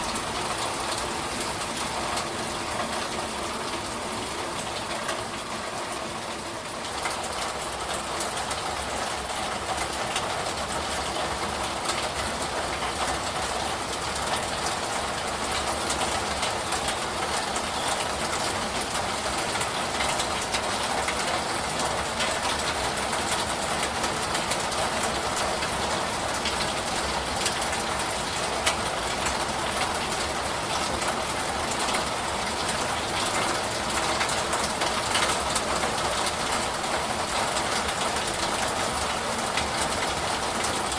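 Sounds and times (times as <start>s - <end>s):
steady rain hiss: 0.0s - 40.9s
raindrop ticks: 6.8s - 40.9s.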